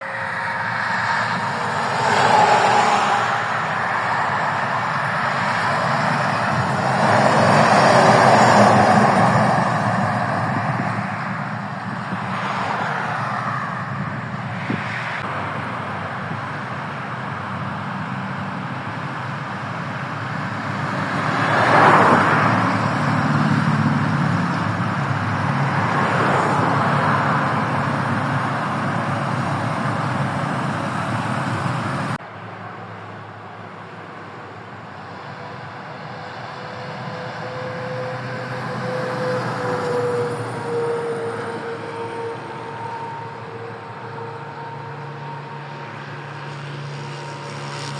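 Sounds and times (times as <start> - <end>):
traffic noise: 0.0 - 47.9
truck running: 0.0 - 47.9.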